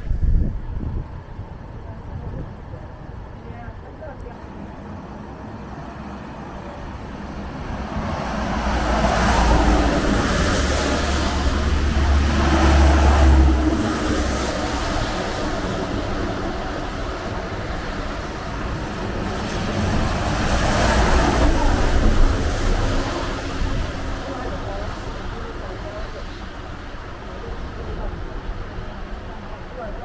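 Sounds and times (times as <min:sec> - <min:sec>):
truck engine rumble: 0:00.0 - 0:30.0
tyres hissing on wet road: 0:04.0 - 0:30.0.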